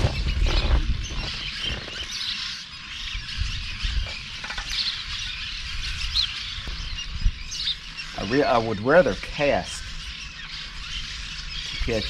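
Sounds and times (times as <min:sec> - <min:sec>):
birds calling: 0:00.0 - 0:12.0
cicadas droning: 0:00.0 - 0:12.0.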